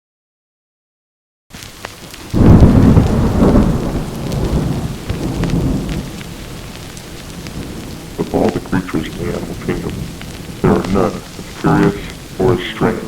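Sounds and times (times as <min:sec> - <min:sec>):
rain falling: 0:01.5 - 0:13.0
thunder rumbling: 0:02.2 - 0:13.0.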